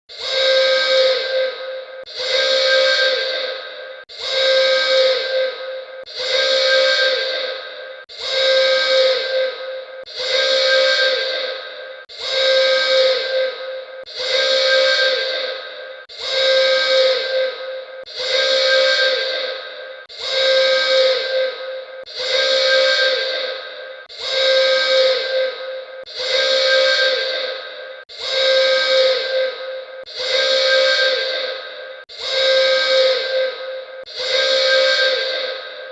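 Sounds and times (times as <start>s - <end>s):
whistle-like alarm tone: 0.1s - 35.9s.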